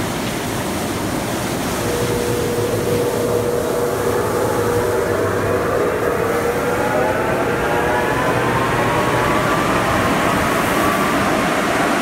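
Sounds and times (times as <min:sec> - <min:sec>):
mechanical whine of machinery: 0:01.7 - 0:12.0.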